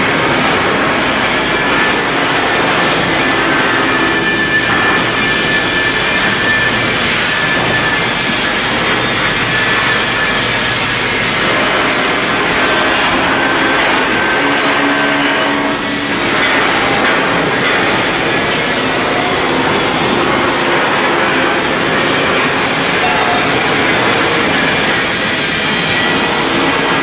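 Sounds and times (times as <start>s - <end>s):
industrial machinery noise: 0.0s - 27.0s.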